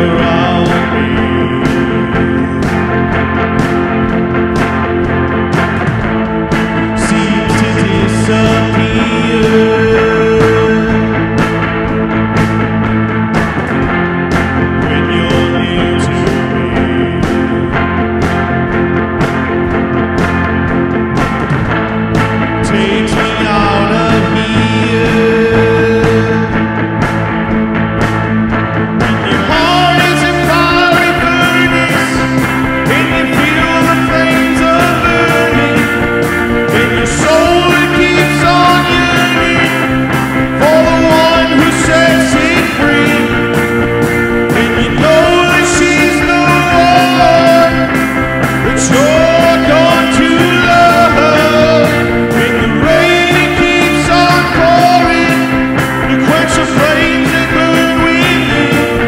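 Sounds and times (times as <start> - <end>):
man singing: 0.0 - 20.2, 21.2 - 27.6, 29.0 - 59.0
electric guitar strumming: 0.0 - 59.0.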